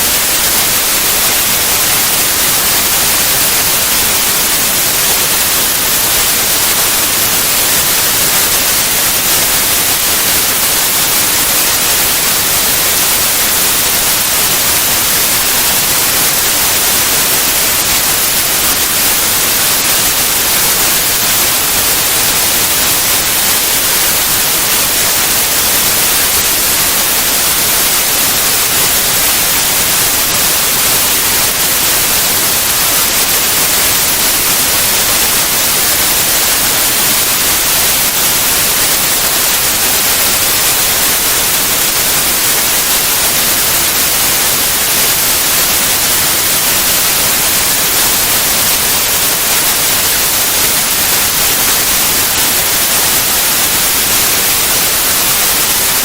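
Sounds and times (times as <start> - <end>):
loud white noise hiss: 0.0 - 56.0.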